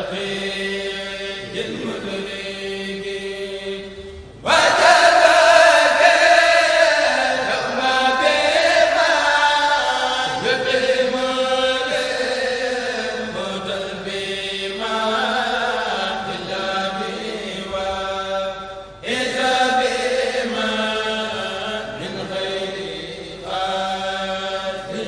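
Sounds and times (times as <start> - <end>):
voices chanting a devotional poem: 0.0 - 25.0.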